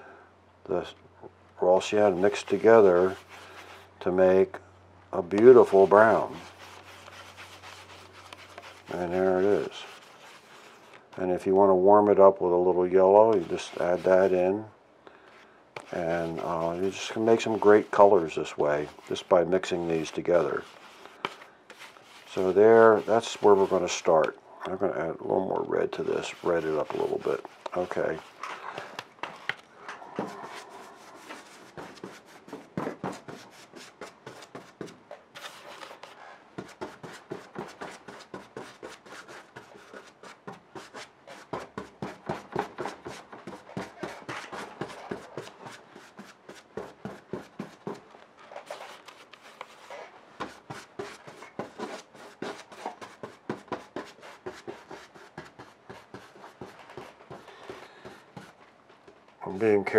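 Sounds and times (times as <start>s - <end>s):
paintbrush scrubbing on canvas: 1.8s - 4.0s, 5.4s - 11.4s, 13.2s - 14.6s, 15.8s - 24.4s, 25.8s - 29.6s, 30.2s - 58.6s.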